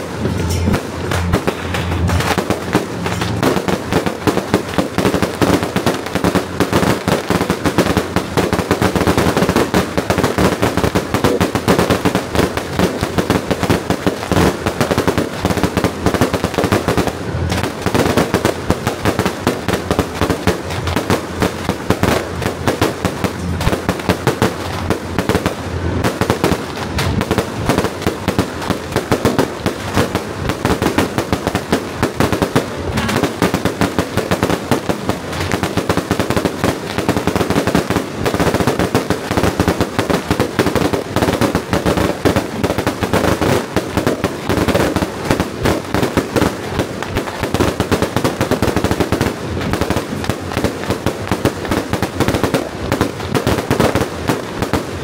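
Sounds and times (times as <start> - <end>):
firecrackers crackling: 0.0 - 55.0.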